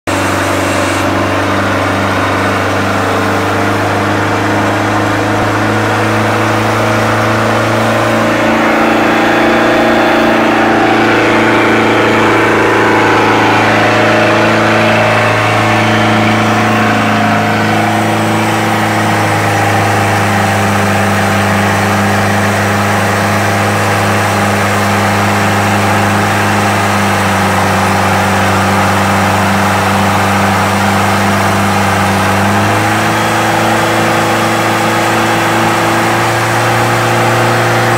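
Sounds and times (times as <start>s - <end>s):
marine engine running: 0.0s - 37.9s.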